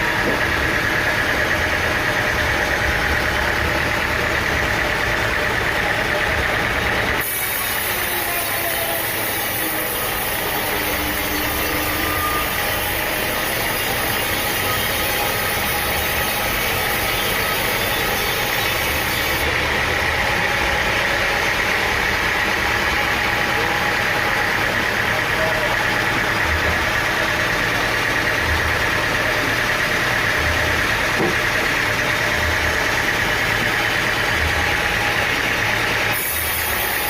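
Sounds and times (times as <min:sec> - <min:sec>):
engine-driven machinery running: 0:00.0 - 0:37.0.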